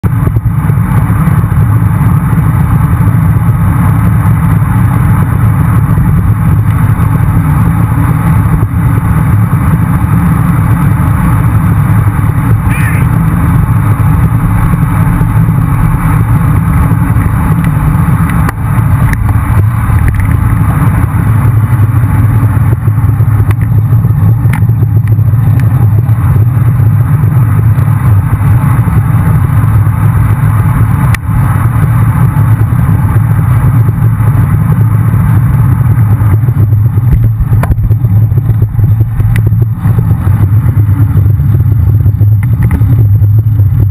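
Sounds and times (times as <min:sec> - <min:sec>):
car traffic: 0:00.0 - 0:43.9
wind buffeting microphone: 0:00.0 - 0:43.9.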